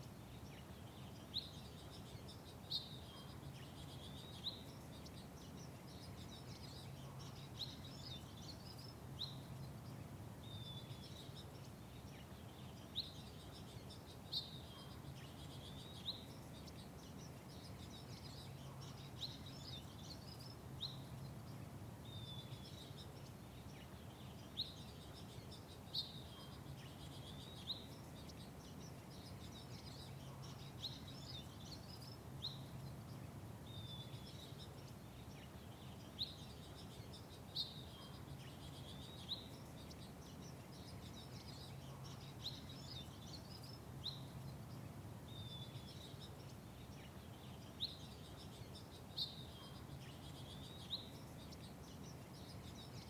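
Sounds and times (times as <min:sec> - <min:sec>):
low background hum: 0:00.0 - 0:53.0
songbirds chirping: 0:00.0 - 0:53.0.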